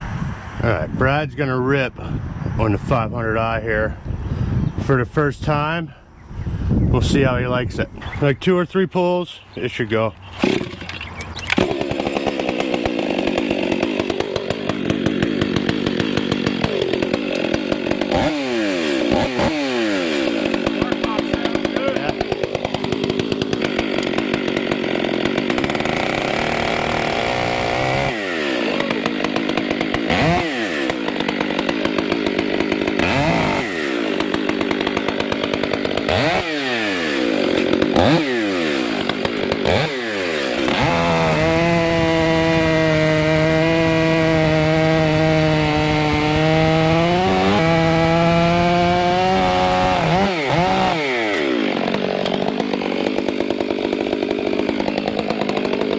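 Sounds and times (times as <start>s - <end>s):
chainsaw revving: 10.1s - 55.9s.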